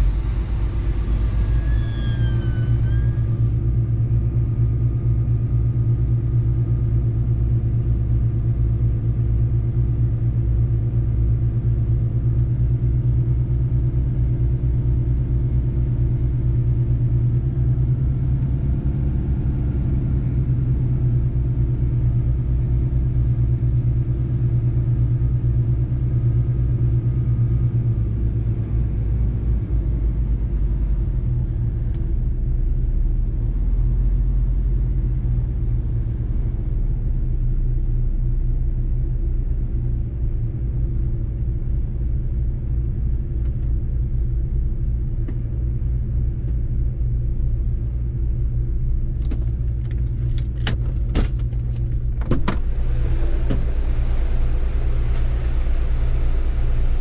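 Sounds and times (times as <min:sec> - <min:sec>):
diesel truck engine rumble: 0:00.0 - 0:57.0.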